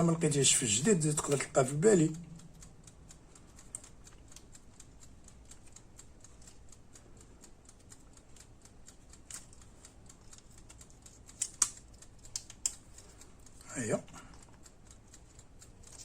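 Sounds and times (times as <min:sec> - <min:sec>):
faint rapid ticking: 0:00.0 - 0:16.0
sharp clicks: 0:00.0 - 0:16.0.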